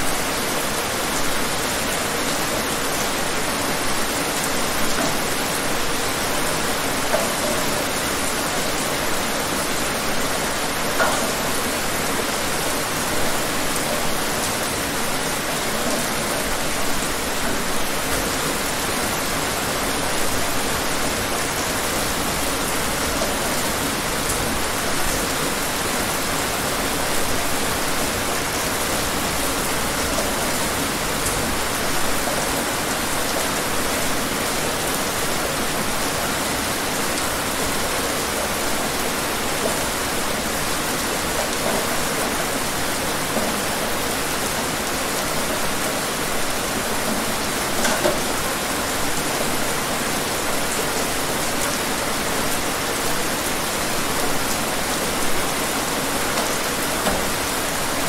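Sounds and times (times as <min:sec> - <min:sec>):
louder raindrops: 0:00.0 - 0:58.0
steady rain falling: 0:00.0 - 0:58.0.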